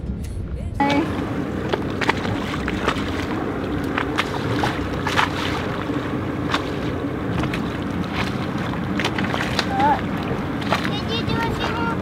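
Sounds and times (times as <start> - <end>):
wind buffeting microphone: 0.5 - 12.0
splashes: 0.8 - 12.0
water slapping against hull: 0.8 - 12.0.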